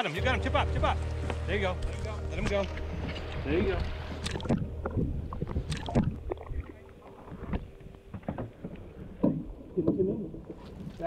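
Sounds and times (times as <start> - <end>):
water splashing against boat: 0.0 - 11.0
low rumble: 0.2 - 10.6.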